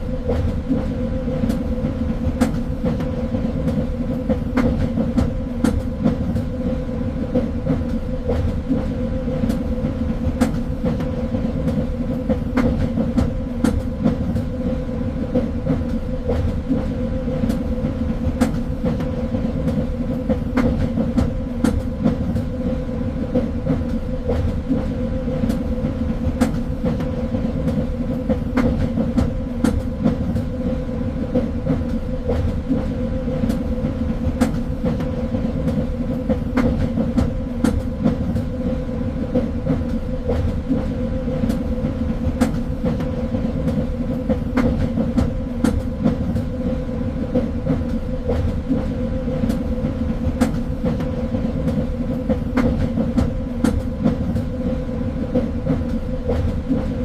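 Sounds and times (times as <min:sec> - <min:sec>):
train rumbling along track: 0:00.0 - 0:57.0
train wheels clicking over rails: 0:00.0 - 0:57.0.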